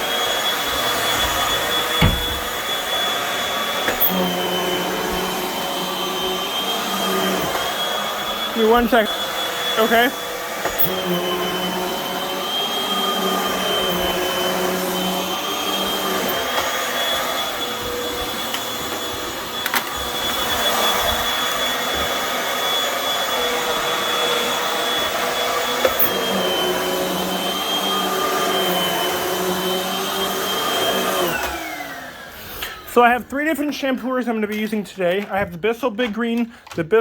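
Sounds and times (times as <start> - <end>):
vacuum cleaner running on carpet: 0.0 - 33.0.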